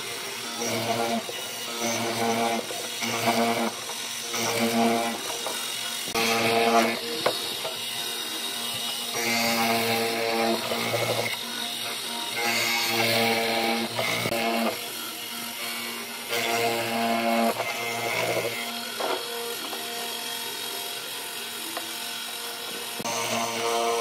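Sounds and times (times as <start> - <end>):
power tool motor bursts: 0.0 - 24.0.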